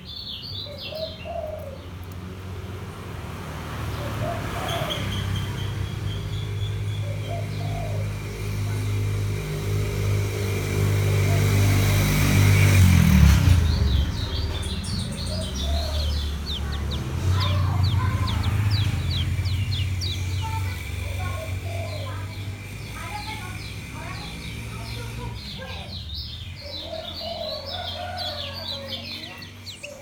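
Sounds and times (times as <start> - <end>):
vehicle engine hum: 0.0 - 30.0.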